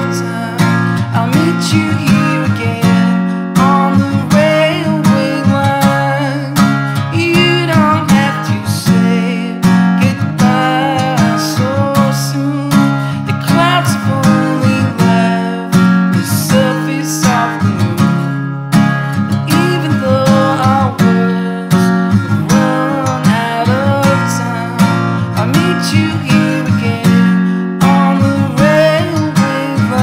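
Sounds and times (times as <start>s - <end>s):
man singing: 0.0s - 30.0s
strummed acoustic guitar: 0.0s - 30.0s.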